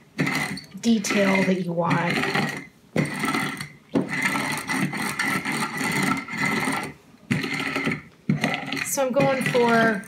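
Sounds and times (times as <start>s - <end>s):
rolling pin rolling over dough: 0.0s - 10.0s.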